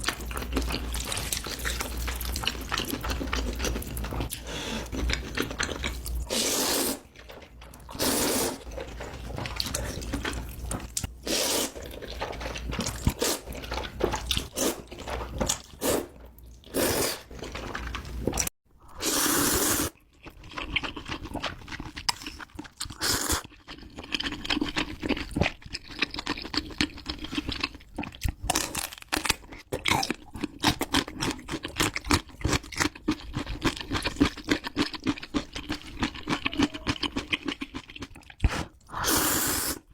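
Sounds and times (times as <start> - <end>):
noodles being slurped: 0.6 - 15.0, 15.7 - 27.7, 34.0 - 39.9.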